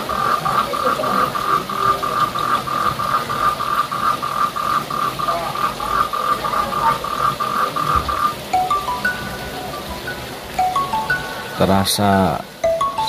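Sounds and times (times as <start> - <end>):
frog croaking: 0.0 - 13.0.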